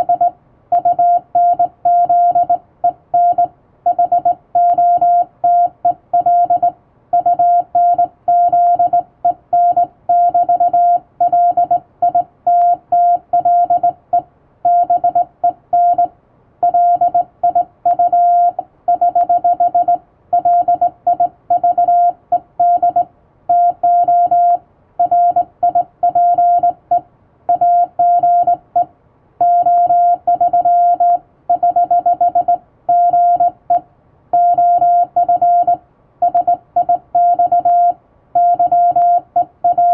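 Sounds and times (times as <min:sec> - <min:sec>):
morse code beeps: 0:00.0 - 0:33.8, 0:34.4 - 0:39.9.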